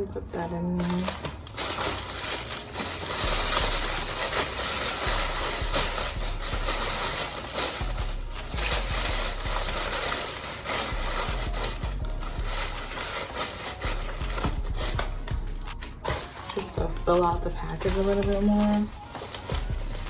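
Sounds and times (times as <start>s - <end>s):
packaging material crinkling: 0.0s - 20.0s.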